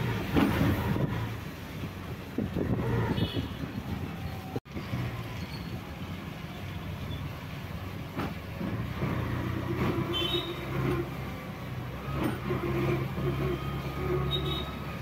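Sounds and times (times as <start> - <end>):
road noise: 0.0 - 15.0
vehicle engine humming: 0.0 - 15.0.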